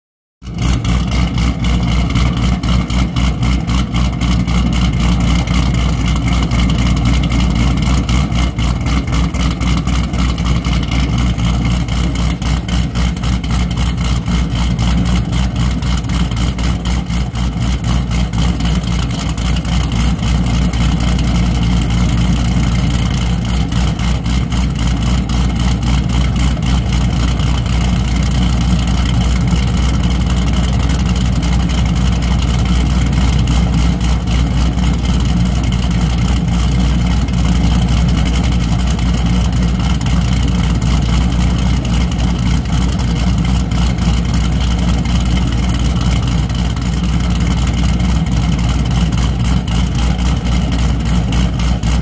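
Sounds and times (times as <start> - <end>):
engine idling with choppy lope: 0.4 - 52.0.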